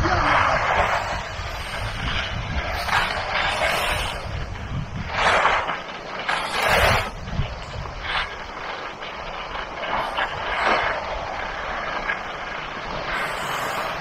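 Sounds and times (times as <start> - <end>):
skis scraping on icy snow: 0.0 - 14.0.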